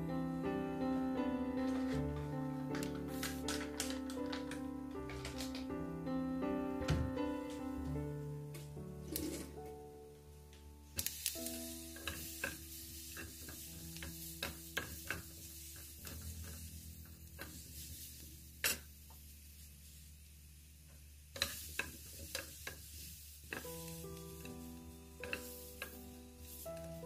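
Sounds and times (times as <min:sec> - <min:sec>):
light sizzle: 0:00.0 - 0:27.0.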